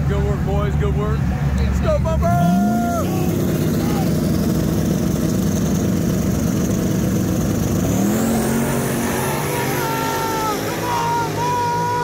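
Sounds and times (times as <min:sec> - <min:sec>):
drag car engines revving: 0:00.0 - 0:12.0.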